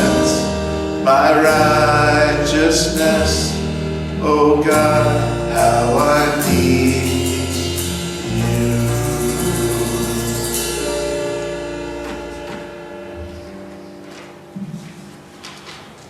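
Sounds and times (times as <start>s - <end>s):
voices singing a hymn: 0.0s - 14.3s
keyboard accompaniment: 0.0s - 16.0s.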